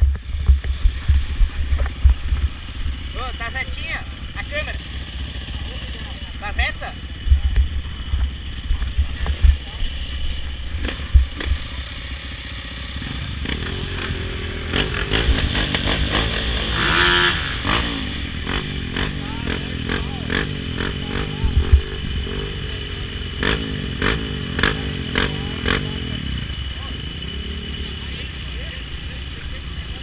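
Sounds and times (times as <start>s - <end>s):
dirt bike engines idling: 0.0s - 30.0s.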